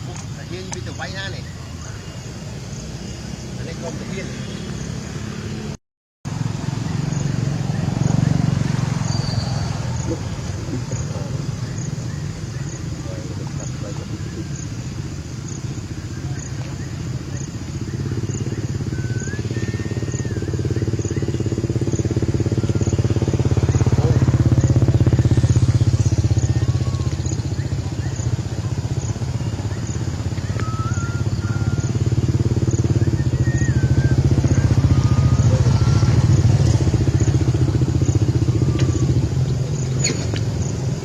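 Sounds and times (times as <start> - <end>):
engine rumbling: 0.0 - 41.0.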